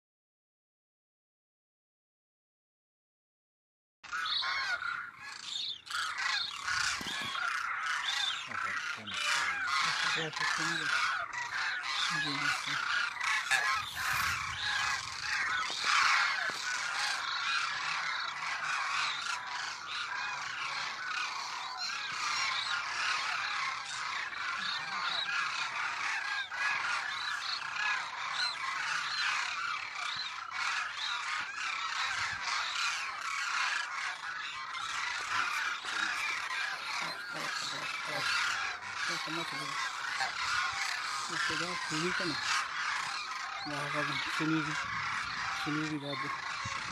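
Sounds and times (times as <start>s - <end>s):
cranes calling in flight: 4.0s - 46.9s.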